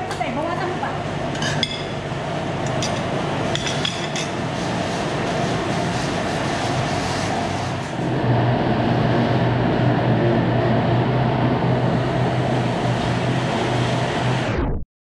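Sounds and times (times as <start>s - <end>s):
machine hum with whooshing hiss: 0.0s - 14.8s.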